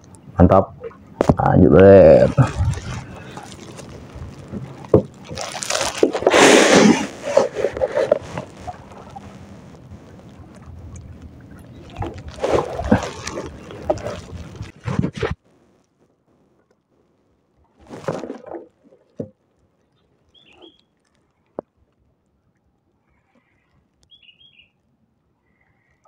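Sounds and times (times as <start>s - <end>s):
water splashing and sloshing: 0.7s - 15.5s, 17.5s - 24.0s.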